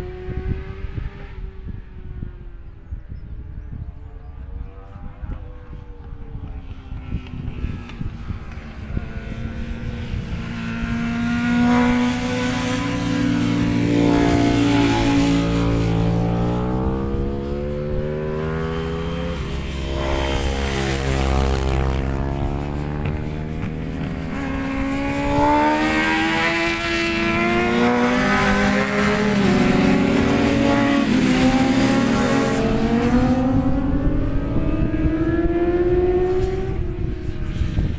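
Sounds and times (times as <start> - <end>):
racing motorcycles passing: 0.0 - 37.9
wind rumble on microphone: 0.0 - 37.9.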